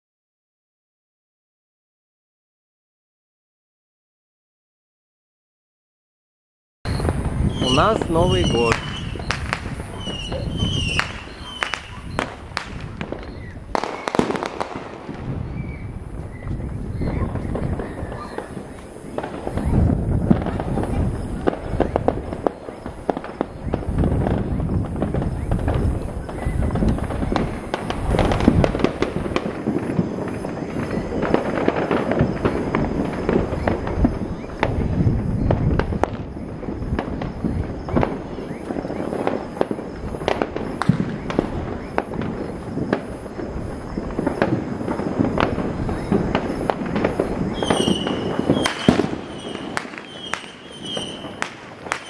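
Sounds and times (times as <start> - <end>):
fireworks bangs and crackling: 6.9 - 52.0.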